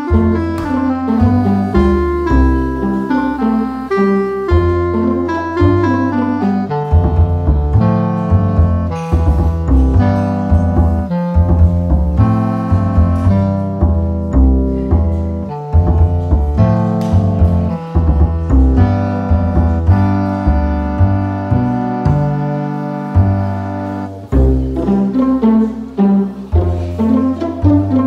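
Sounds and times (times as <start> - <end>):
piano chords: 0.0 - 28.0
plucked double bass: 0.0 - 28.0.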